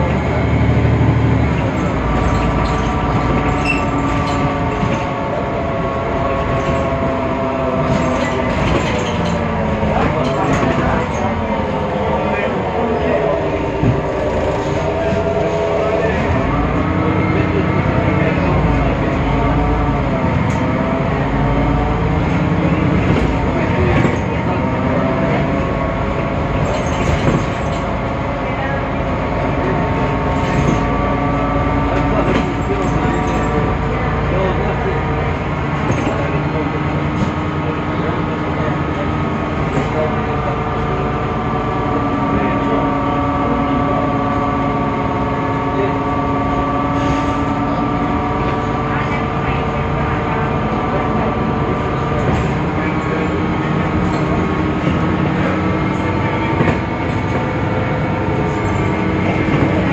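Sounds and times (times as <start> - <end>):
city bus diesel engine drone: 0.0 - 59.9.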